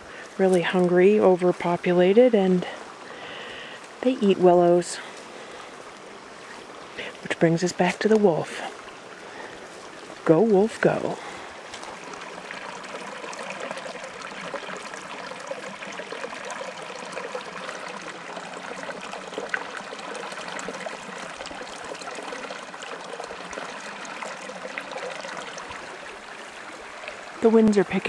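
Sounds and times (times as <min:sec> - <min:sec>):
creek water babbling: 0:00.0 - 0:28.0
small water splashes: 0:02.6 - 0:28.0.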